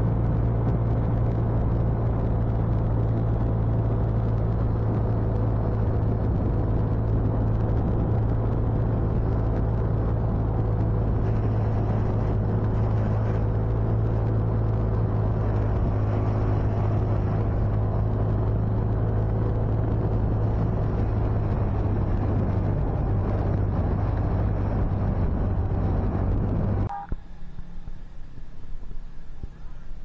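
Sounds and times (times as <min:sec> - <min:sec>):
outdoor noise: 0:00.0 - 0:30.0
road and wind noise: 0:00.0 - 0:30.0.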